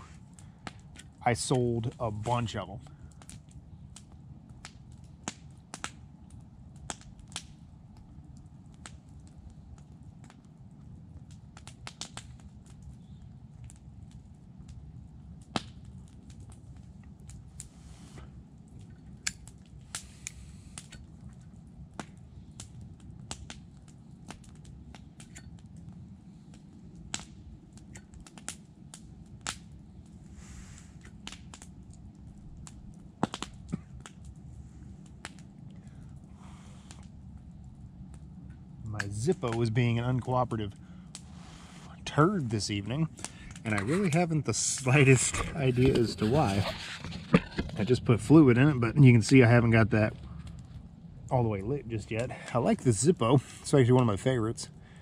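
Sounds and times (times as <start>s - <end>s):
low steady rumble: 0.0s - 55.0s.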